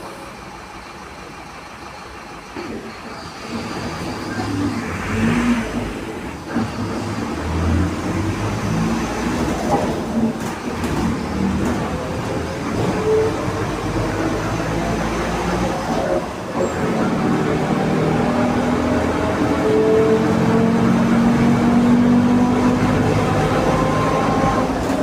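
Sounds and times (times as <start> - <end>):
diesel bus engine droning: 0.0 - 25.0.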